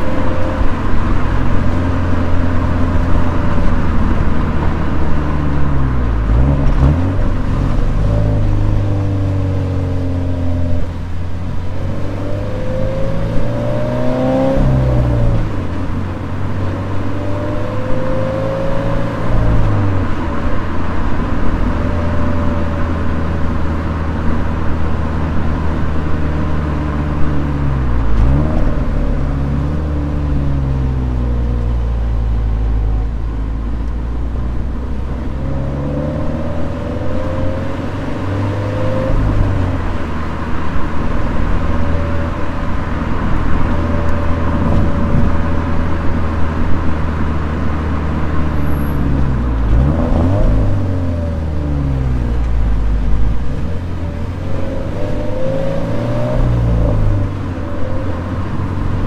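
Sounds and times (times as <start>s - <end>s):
car engine running: 0.0s - 59.0s
road noise: 0.0s - 59.0s.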